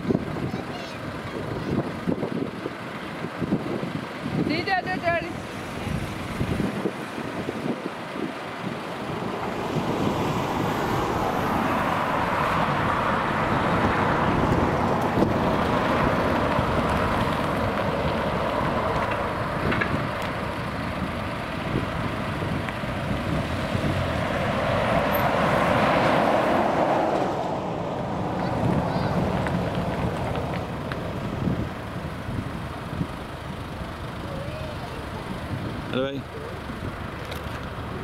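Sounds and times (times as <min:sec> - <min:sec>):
van driving slowly past: 0:00.0 - 0:38.0
vehicle engine and road noise: 0:00.0 - 0:38.0.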